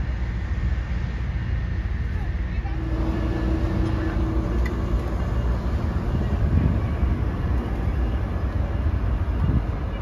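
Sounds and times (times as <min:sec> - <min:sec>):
diesel train engine rumble: 0:00.0 - 0:10.0.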